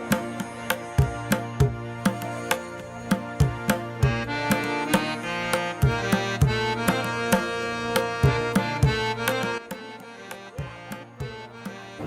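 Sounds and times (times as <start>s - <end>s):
harmonium chords: 0.0s - 12.0s.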